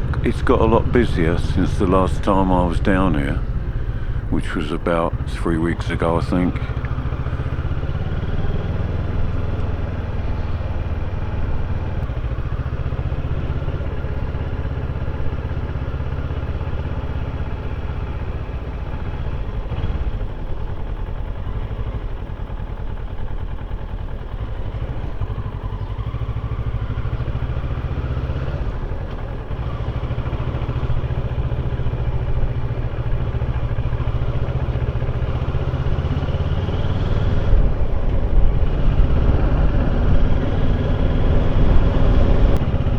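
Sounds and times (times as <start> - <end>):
motorcycle engine running: 0.0 - 42.9
road noise: 0.0 - 42.9.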